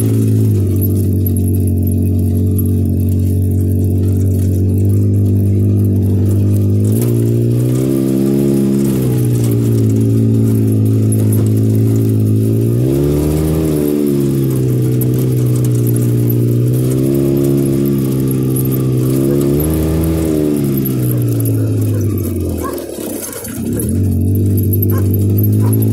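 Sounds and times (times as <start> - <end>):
car engine droning: 0.0 - 25.9.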